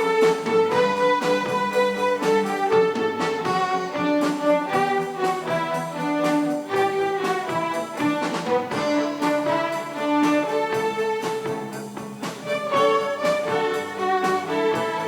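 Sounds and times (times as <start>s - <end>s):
string ensemble playing: 0.0s - 15.0s.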